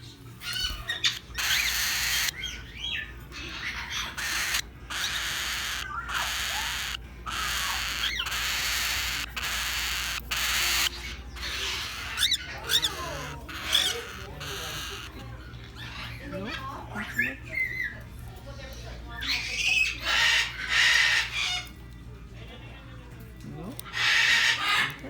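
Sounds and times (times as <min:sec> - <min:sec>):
parrots squawking: 0:00.4 - 0:21.9, 0:23.8 - 0:25.0.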